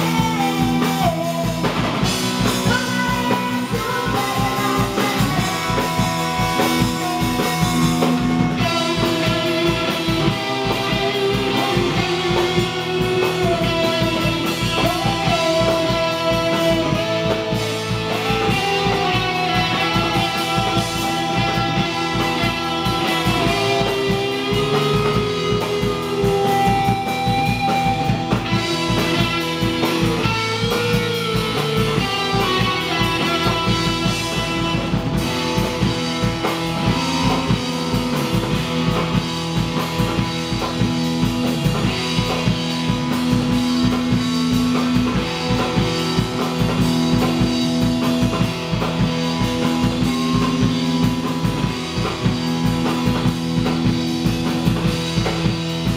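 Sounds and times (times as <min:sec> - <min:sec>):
drum kit beat: 0:00.0 - 0:55.9
electric guitars ringing: 0:00.0 - 0:55.9.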